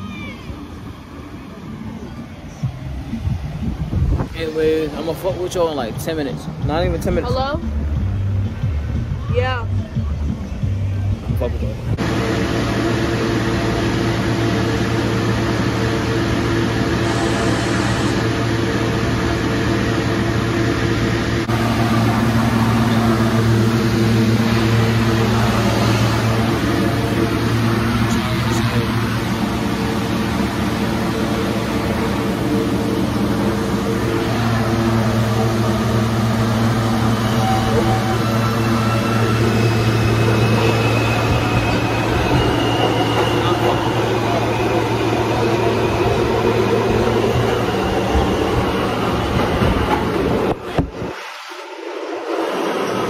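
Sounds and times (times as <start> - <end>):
subway train rumbling: 0.0 - 53.0.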